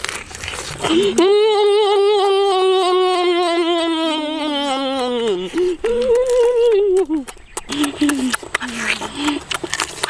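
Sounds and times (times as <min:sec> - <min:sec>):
boy humming: 0:00.8 - 0:09.6.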